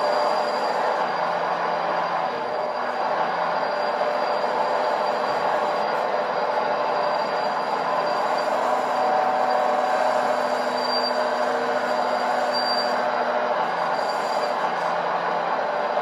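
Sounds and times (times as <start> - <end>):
faint high squeal: 0.0 - 16.0
hydraulic system whine: 0.0 - 16.0.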